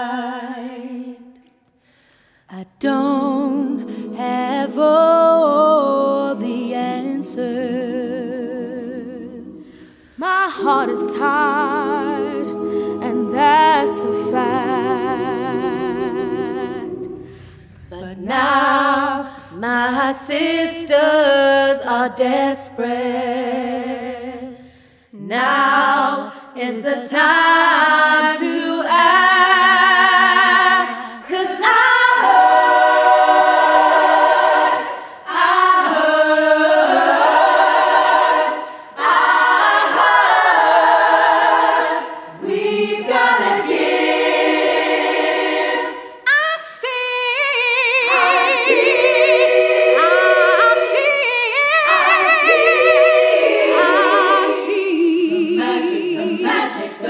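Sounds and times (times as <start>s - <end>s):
women's choir singing a cappella: 0.0s - 1.6s, 2.5s - 57.0s.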